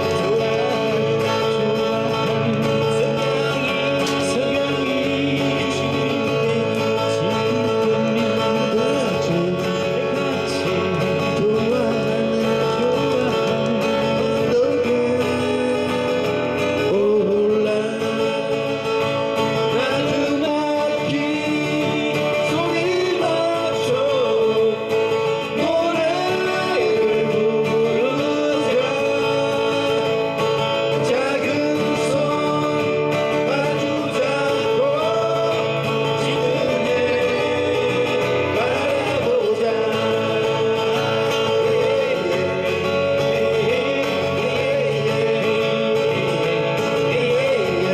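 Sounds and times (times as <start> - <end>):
acoustic guitars strumming: 0.0 - 47.9
men singing: 0.0 - 47.9.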